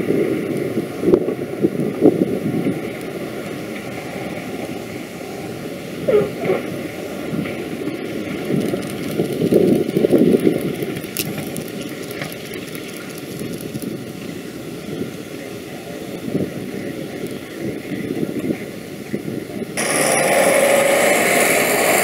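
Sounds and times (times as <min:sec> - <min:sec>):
propeller plane engines rumbling: 0:00.0 - 0:22.0.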